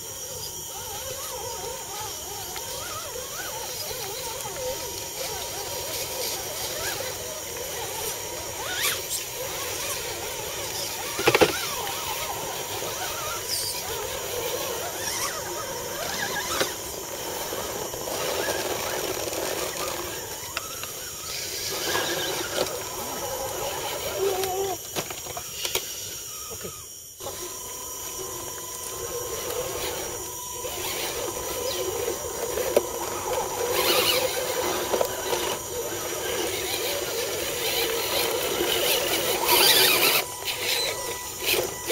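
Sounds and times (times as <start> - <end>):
electric motors whining: 0.0 - 41.9.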